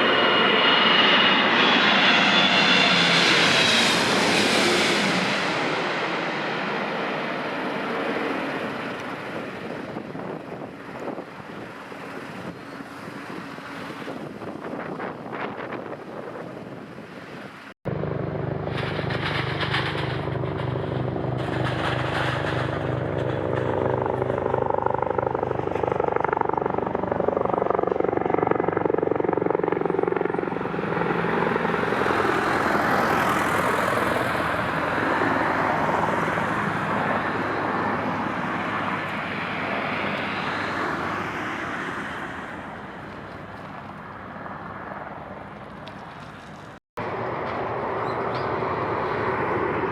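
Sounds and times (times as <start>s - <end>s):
airplane engines landing: 0.0s - 49.9s.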